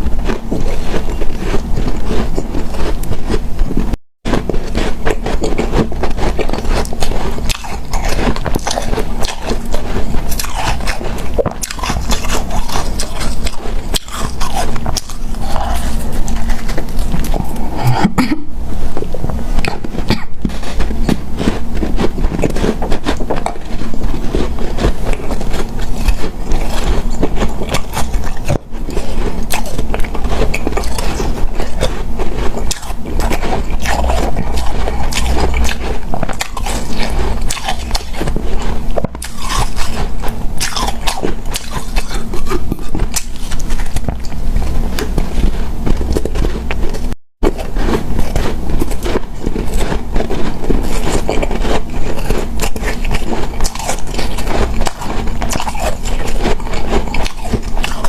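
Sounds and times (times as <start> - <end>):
biting and crunching ice: 0.0 - 18.0, 19.6 - 58.0.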